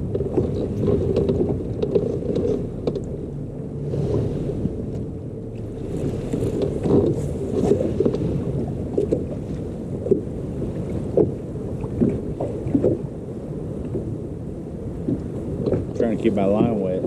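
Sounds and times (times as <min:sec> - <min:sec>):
water slapping boat hull: 0:00.0 - 0:17.0
wind rumble on microphone: 0:00.0 - 0:17.0.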